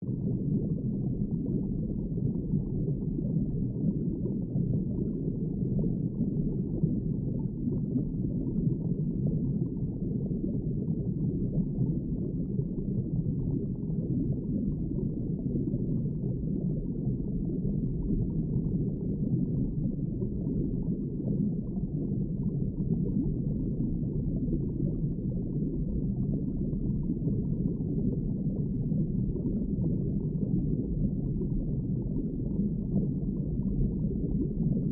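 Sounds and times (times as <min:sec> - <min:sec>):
muffled underwater rumble: 0:00.0 - 0:34.9.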